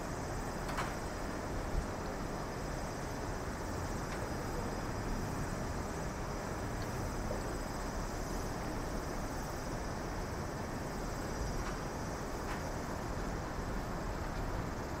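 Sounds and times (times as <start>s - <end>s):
low rushing outdoor noise: 0.0s - 15.0s.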